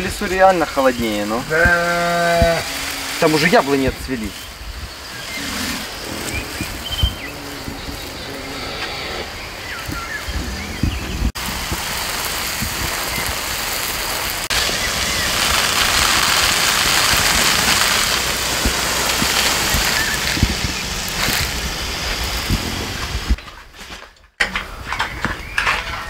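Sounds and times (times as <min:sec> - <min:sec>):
hose spray hissing: 0:00.0 - 0:23.4.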